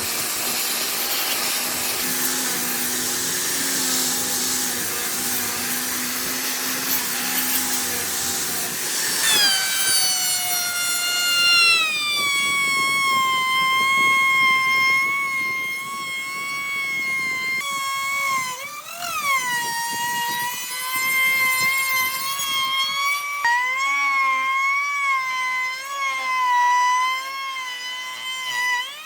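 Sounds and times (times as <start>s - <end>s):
power tool motor whining: 0.0s - 29.0s.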